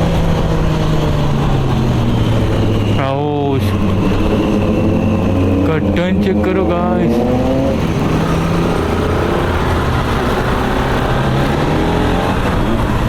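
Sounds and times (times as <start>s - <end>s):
vehicle engine running: 0.0s - 13.0s
wind and road noise: 0.0s - 13.0s.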